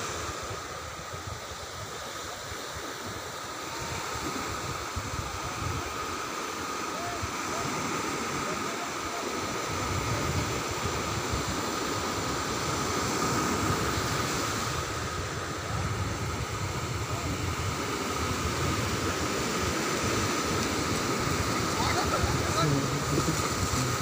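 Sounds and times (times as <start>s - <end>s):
sea surf breaking on beach: 0.0s - 24.0s.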